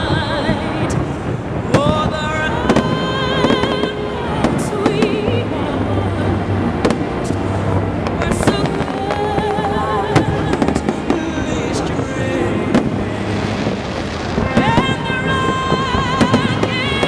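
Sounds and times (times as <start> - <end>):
fireworks bangs and crackles: 0.0 - 17.0
music with long held notes: 0.0 - 17.0.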